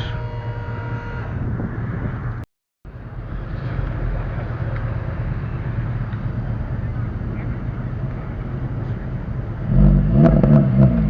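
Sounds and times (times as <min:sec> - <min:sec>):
car engines rumbling: 0:00.0 - 0:11.0
outdoor background noise: 0:00.0 - 0:11.0.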